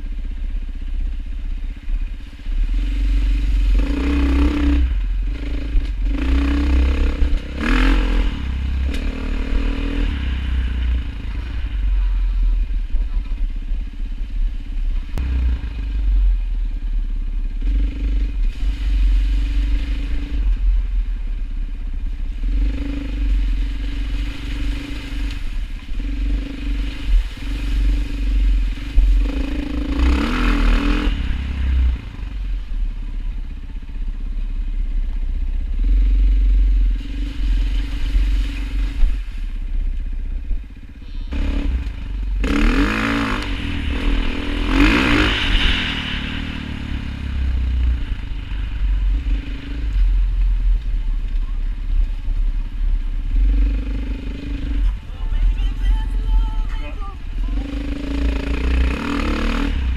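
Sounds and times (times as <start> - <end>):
engine running: 0.0 - 59.9
heavy low rumble: 0.0 - 59.9.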